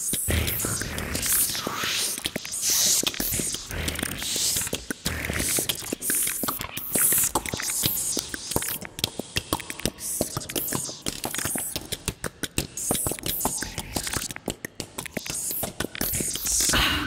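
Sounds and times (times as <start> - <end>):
mouth clicks and pops: 2.1 - 16.7.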